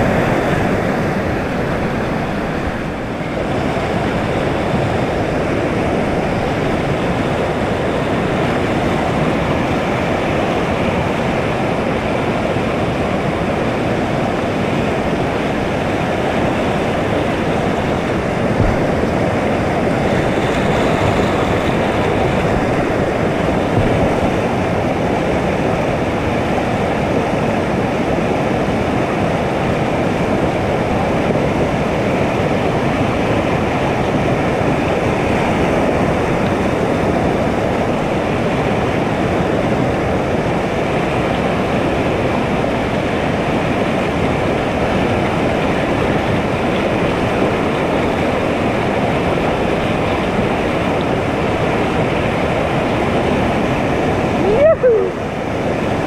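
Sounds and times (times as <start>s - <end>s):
whitewater rapids rushing: 0.0s - 56.0s.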